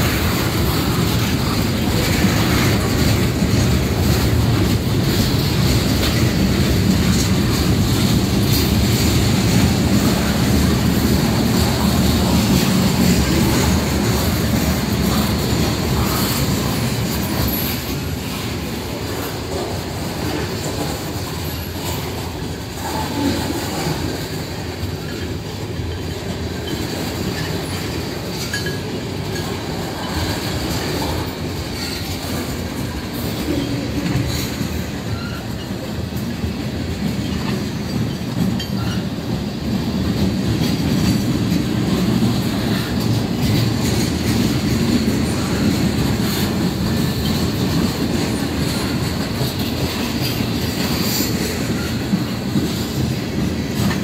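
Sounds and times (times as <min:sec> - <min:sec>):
rail clicks: 0:00.0 - 0:54.0
train wheels rumbling on rail: 0:00.0 - 0:54.0.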